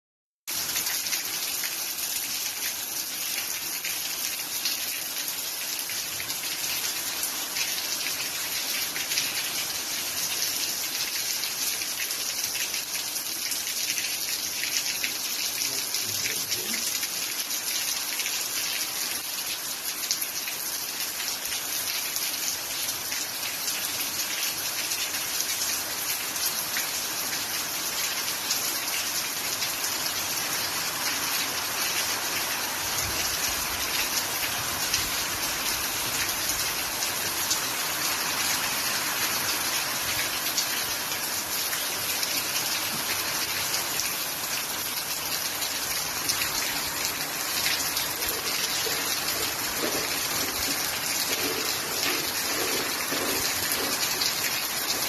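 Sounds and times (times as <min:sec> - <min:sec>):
steady rain falling: 0:00.5 - 0:55.0.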